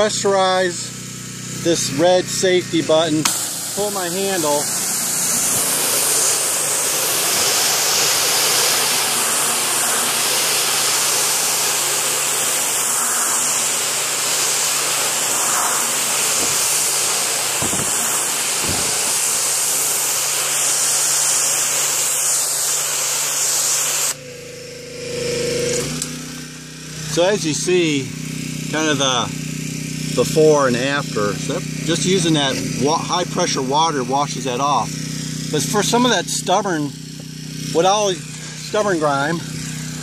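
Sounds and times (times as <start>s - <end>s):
engine low hum: 0.0s - 20.8s, 24.1s - 40.0s
pressure washer spray hissing: 0.0s - 24.2s, 26.1s - 40.0s.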